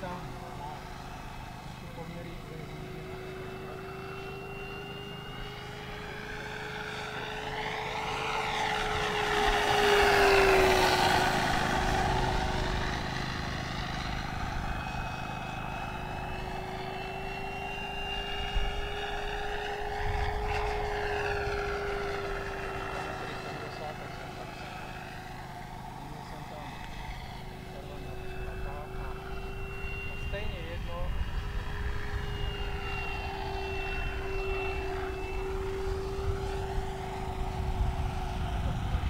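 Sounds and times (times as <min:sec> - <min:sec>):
model plane motor droning: 0:00.0 - 0:39.0.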